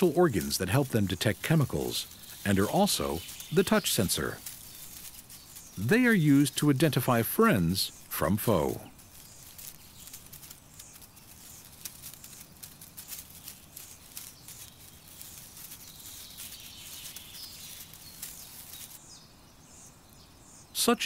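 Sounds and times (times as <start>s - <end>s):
rapid clicking and rustling: 0.0s - 19.0s
faint high chirps: 0.0s - 21.0s
outdoor nature ambience: 0.0s - 21.0s.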